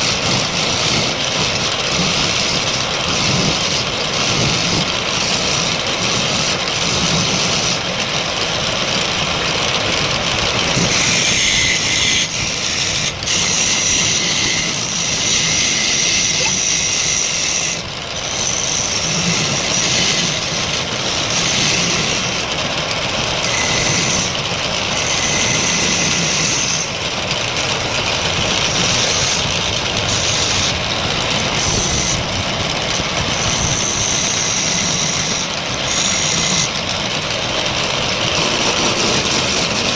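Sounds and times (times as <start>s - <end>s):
wood lathe hissing: 0.0s - 39.9s.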